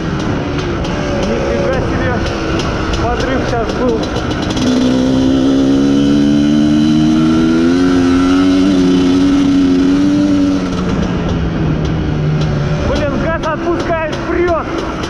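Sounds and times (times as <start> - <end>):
two-stroke engine running: 0.0 - 15.0.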